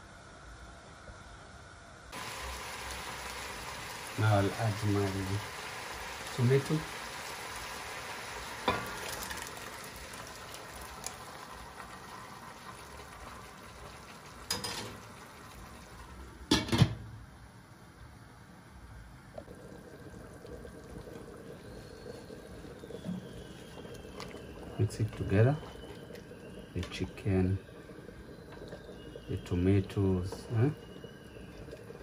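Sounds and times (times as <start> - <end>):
pot bubbling on stove: 2.1 - 16.6, 19.2 - 32.0
puree pouring into pot: 2.2 - 16.2, 19.4 - 32.0.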